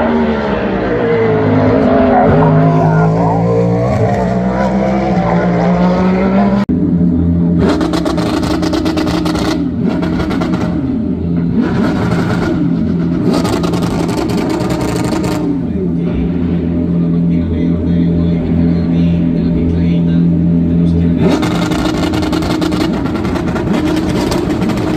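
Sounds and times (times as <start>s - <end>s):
race car engine rasping: 0.0s - 24.9s
race car engine rising and falling: 0.0s - 24.9s.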